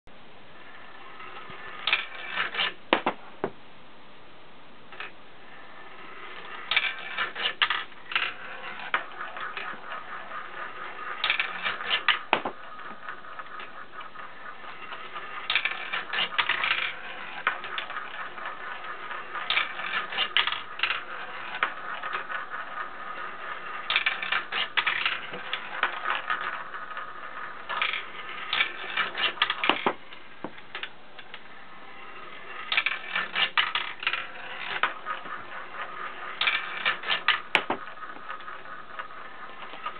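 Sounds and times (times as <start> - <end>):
marbles clacking together: 0.6 - 3.5, 4.9 - 39.9
marbles rattling down wooden track: 0.6 - 3.5, 4.9 - 39.9.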